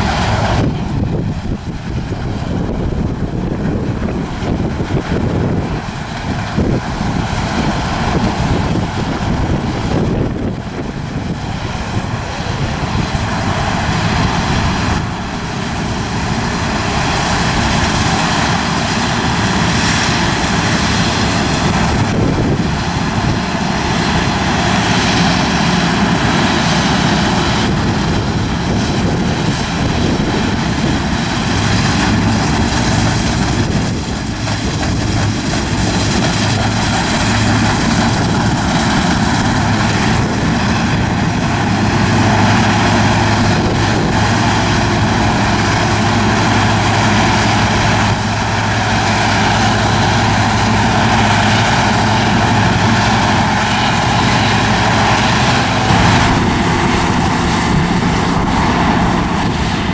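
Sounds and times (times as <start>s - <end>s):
combine harvester drone: 0.0s - 59.9s
steady low hum: 0.0s - 59.9s.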